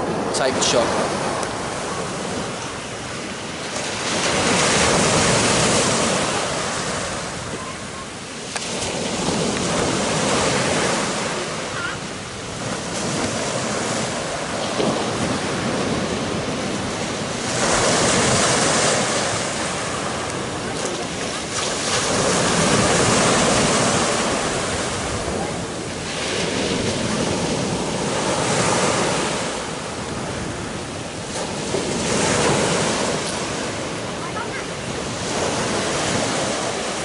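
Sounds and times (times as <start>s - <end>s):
surf breaking on beach: 0.0s - 37.0s
wind buffeting microphone: 0.0s - 37.0s.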